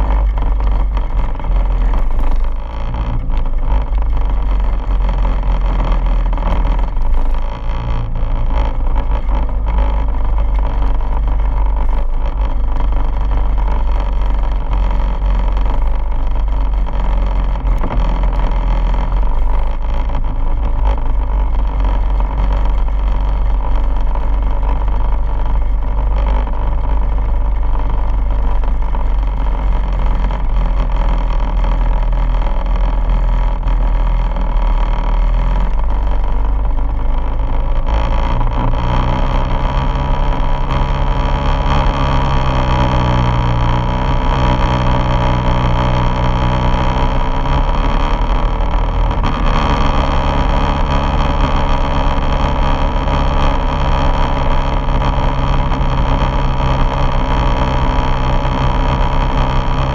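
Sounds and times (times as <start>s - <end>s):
heavy low rumble: 0.0s - 59.9s
quad bike engine running: 0.0s - 59.9s.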